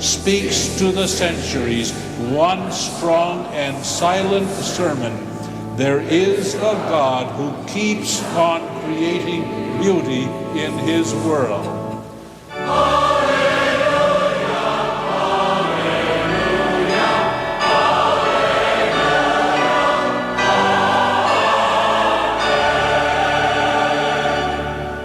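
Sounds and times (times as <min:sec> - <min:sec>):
choir singing held chords: 0:00.0 - 0:25.0.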